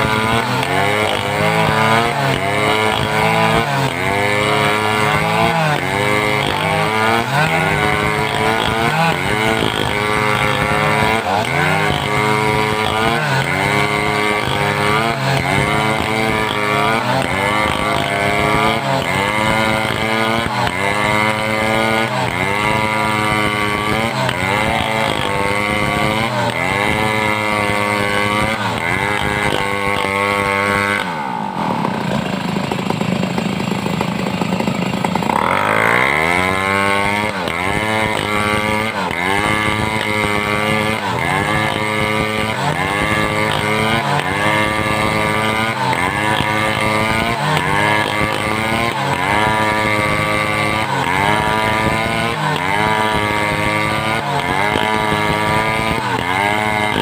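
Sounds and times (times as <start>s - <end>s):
chainsaw cutting timber: 0.0s - 57.0s.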